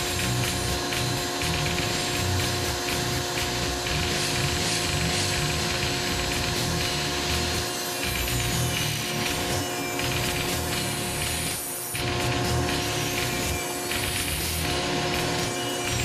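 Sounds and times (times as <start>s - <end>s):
rotary tool whine: 0.0s - 16.0s.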